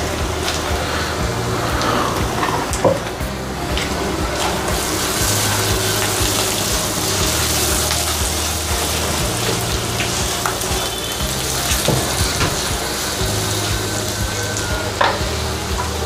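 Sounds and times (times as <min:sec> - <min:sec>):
food sizzling in hot oil: 0:00.1 - 0:16.0.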